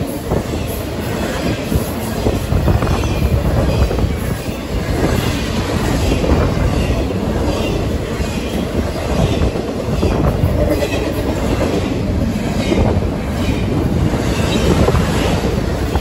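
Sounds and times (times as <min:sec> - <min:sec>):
steel wheels rolling on rail: 0:00.0 - 0:16.0.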